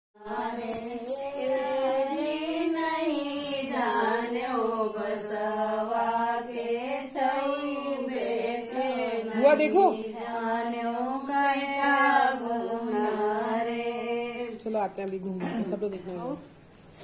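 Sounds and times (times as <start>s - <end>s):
slow chant-like singing: 0.2s - 14.7s.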